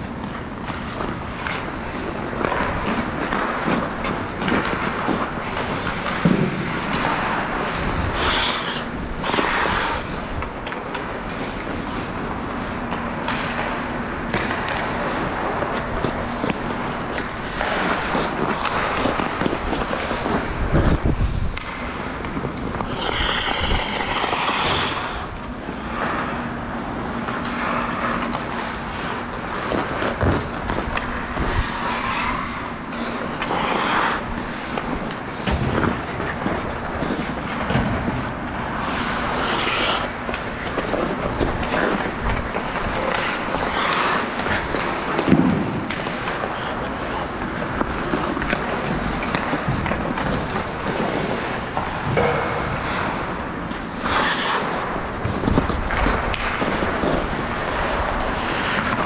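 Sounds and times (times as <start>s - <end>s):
constant noisy background: 0.0s - 59.0s
sharp knocks and scrapes: 0.2s - 59.0s.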